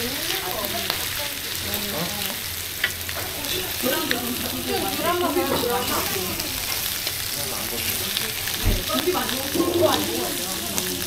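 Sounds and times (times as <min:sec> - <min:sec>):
squid sizzling on griddle: 0:00.0 - 0:11.0.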